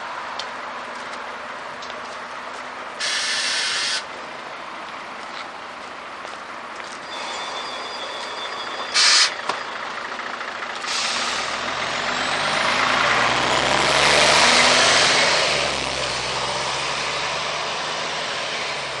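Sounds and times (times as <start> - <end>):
city bus engine: 0.0 - 19.0.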